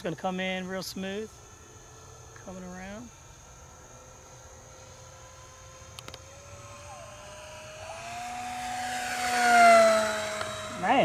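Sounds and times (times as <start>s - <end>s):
model plane motor whining: 1.4s - 11.0s.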